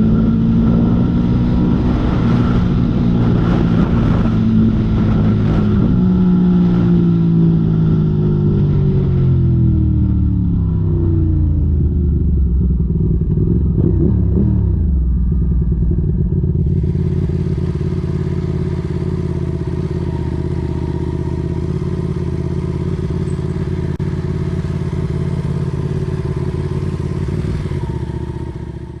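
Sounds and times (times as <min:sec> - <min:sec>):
motorcycle engine slowing and idling: 0:00.0 - 0:29.0.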